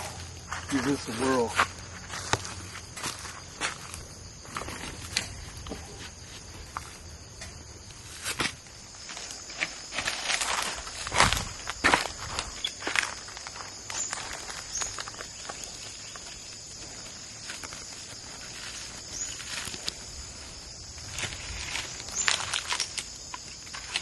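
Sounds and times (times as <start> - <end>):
footsteps crunching dry leaves: 0.1 - 7.2, 8.0 - 24.0.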